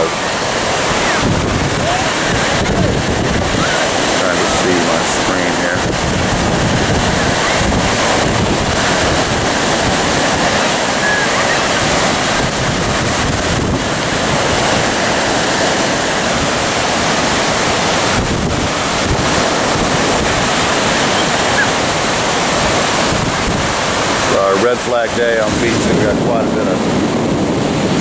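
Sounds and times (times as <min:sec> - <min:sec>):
surf breaking: 0:00.0 - 0:28.0
wind buffeting microphone: 0:00.0 - 0:28.0.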